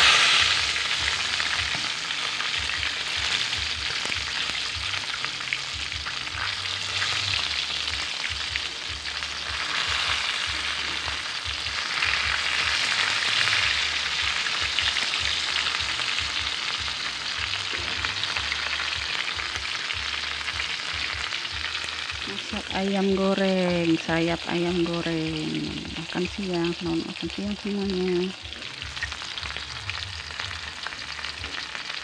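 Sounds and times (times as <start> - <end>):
chicken frying in oil: 0.0 - 32.0.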